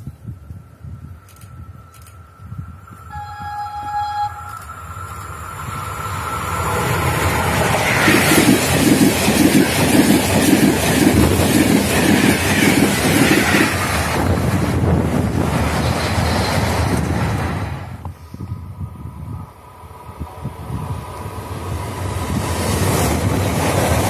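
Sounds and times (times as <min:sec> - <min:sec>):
rhythmic clatter of train wheels: 0:00.0 - 0:18.5, 0:19.2 - 0:24.0
train rushing noise: 0:00.0 - 0:24.0.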